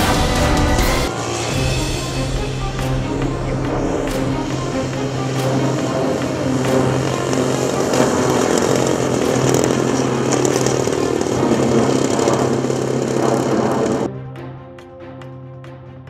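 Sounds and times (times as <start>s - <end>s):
model plane engine running: 1.0s - 14.1s.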